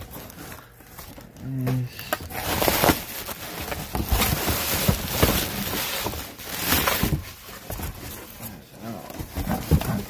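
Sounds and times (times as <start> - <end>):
packaging crinkling: 0.0 - 8.5.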